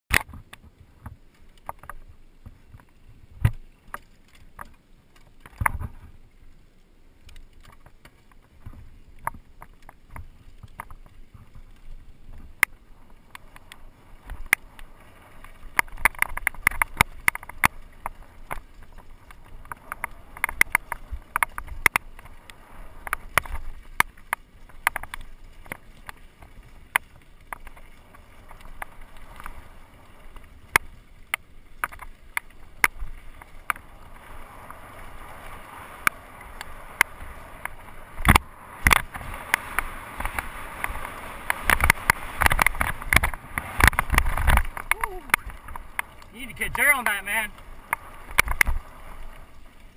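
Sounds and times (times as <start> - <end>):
bike tyres rushing on dirt: 0.1 - 49.9.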